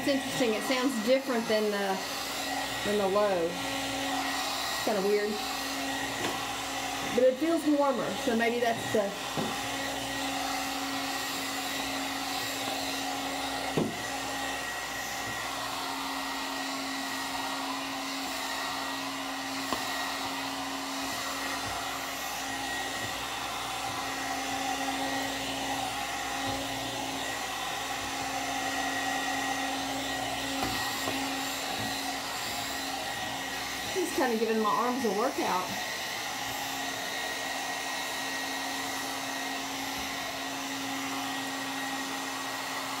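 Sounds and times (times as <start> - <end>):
hair dryer air rushing: 0.0 - 43.0.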